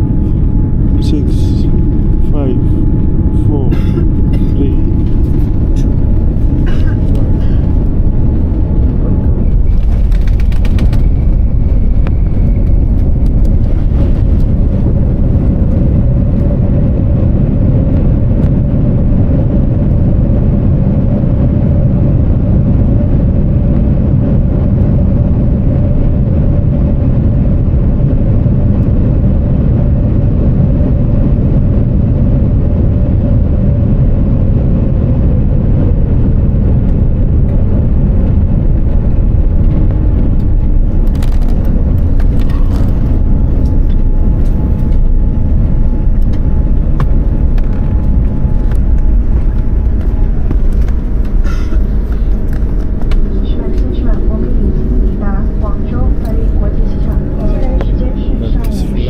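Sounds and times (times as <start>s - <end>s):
airliner cabin rumble on landing: 0.0s - 59.0s
steady jet engine tone: 0.0s - 59.0s.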